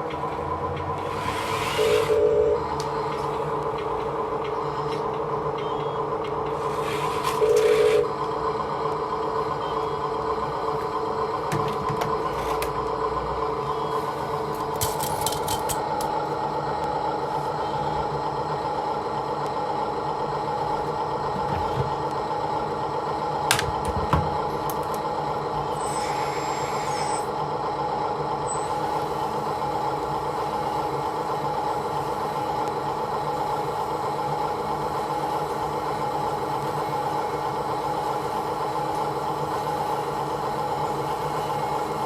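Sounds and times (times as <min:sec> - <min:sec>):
hydraulic pump whine: 0:00.0 - 0:42.0.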